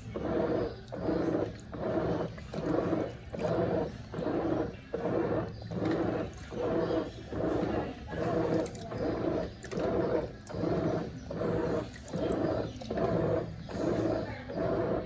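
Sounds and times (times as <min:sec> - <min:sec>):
washing machine motor whirring: 0:00.0 - 0:15.0.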